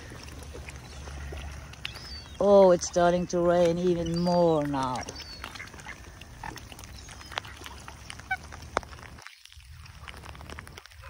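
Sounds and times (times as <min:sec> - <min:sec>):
waterfowl call: 0:00.0 - 0:09.2
rain tapping on microphone: 0:00.0 - 0:11.0.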